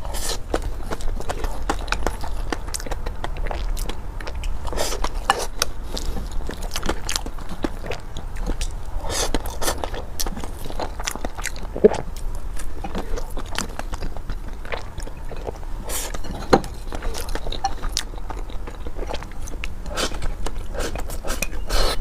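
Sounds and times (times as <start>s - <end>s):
person chewing sticky rice: 0.0s - 22.0s.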